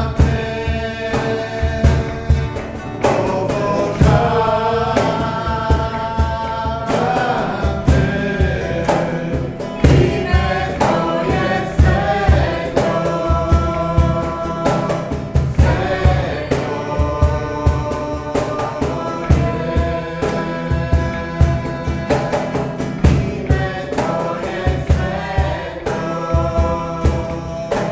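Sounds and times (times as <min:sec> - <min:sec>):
cajon percussion beat: 0:00.0 - 0:27.9
man and woman singing: 0:00.0 - 0:27.9
strummed acoustic guitar: 0:00.0 - 0:27.9.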